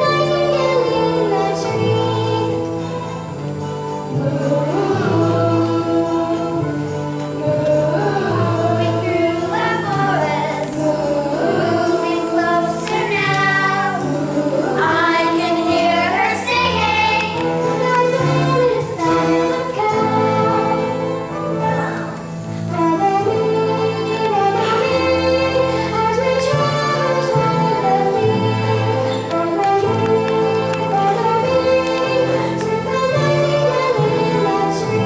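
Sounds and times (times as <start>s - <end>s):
choir singing: 0.0s - 35.0s
instrumental accompaniment: 0.0s - 35.0s.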